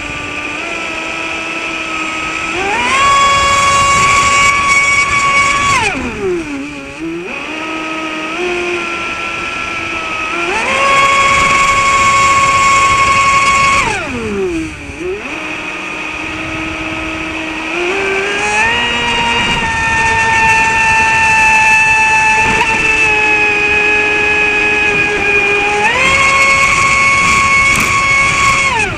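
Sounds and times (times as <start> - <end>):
rc boat motor whining: 0.0 - 28.9.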